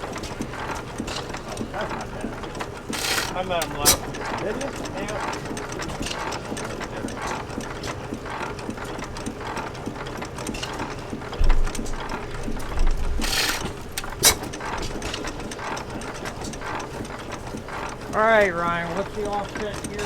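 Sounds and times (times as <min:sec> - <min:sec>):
hit-and-miss engine running: 0:00.0 - 0:20.0
mechanical clatter of gearing: 0:00.0 - 0:20.0.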